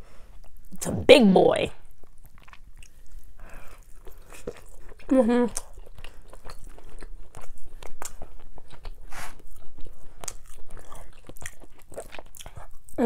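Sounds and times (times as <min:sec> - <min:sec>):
person chewing: 0:00.3 - 0:00.8, 0:01.8 - 0:13.0.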